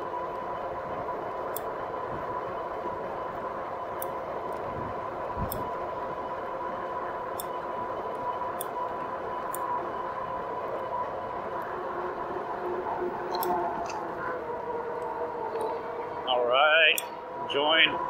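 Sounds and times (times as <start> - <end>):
electric bike motor hum: 0.0 - 18.0.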